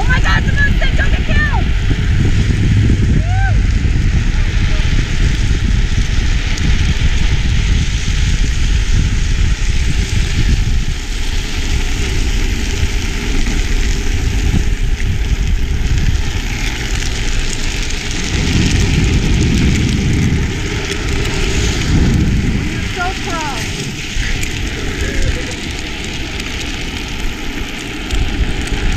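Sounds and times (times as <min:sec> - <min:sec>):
plastic wheels scraping on asphalt: 0:00.0 - 0:28.9
wind rumble on microphone: 0:00.0 - 0:28.9.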